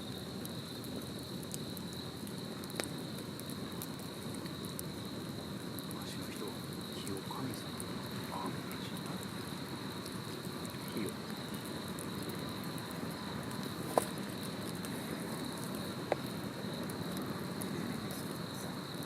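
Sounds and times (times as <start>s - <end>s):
campfire crackling: 0.0s - 19.0s
insect trill: 0.0s - 19.0s
sharp fire pops: 0.0s - 19.0s.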